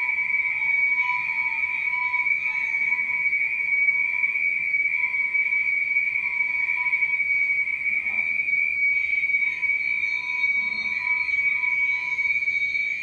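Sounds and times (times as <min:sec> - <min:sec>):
high-pitched whistling tone: 0:00.0 - 0:13.0.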